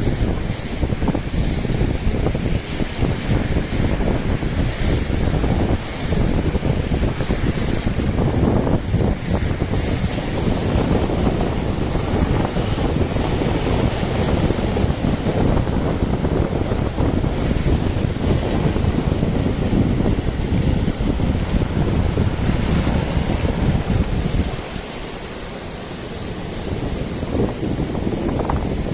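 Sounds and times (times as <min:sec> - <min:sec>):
sea surf rushing: 0:00.0 - 0:28.9
wind buffeting microphone: 0:00.0 - 0:28.9.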